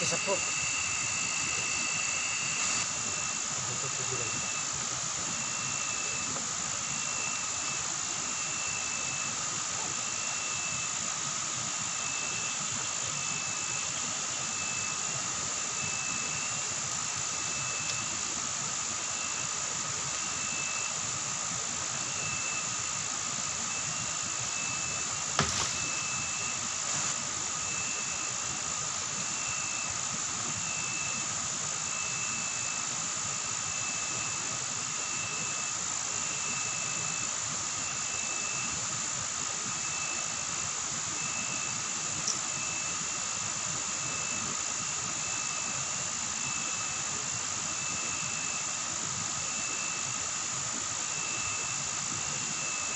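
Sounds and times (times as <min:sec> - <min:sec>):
insects high buzz: 0:00.0 - 0:52.9
pulsing insect chirp: 0:00.0 - 0:52.9.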